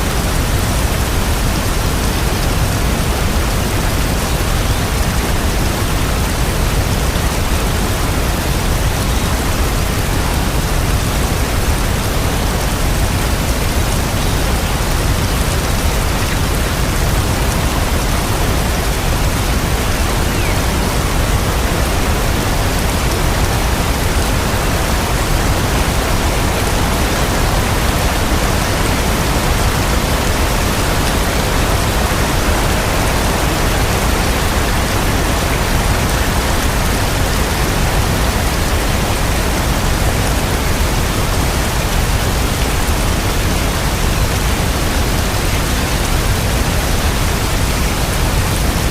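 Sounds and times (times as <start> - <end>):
dense rain falling: 0.0 - 48.9.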